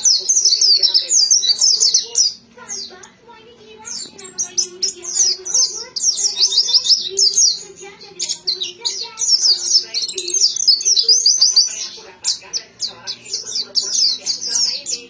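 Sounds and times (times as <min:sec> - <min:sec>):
bird twittering song: 0:00.0 - 0:15.0.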